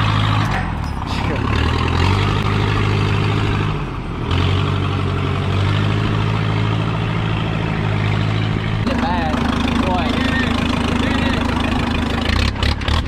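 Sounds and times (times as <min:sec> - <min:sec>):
large vehicle engine humming: 0:00.0 - 0:13.0.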